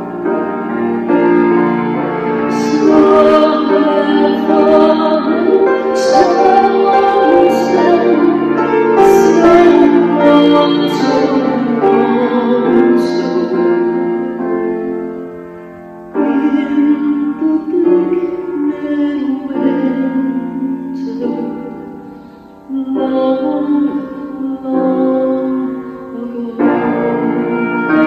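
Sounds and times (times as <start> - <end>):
grand piano: 0.0 - 28.0
woman singing: 1.7 - 14.6, 16.2 - 22.0, 22.7 - 28.0.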